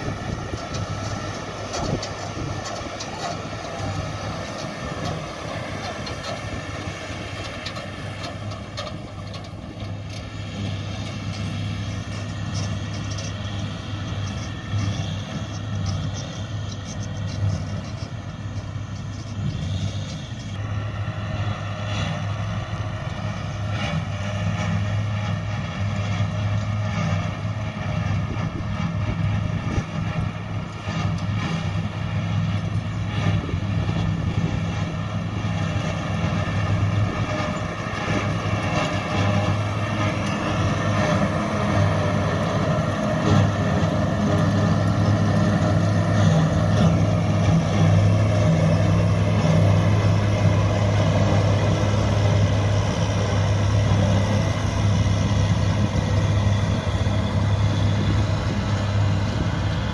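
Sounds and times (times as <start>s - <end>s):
harvester engine drone: 0.0s - 59.9s
tractor running: 0.0s - 59.9s.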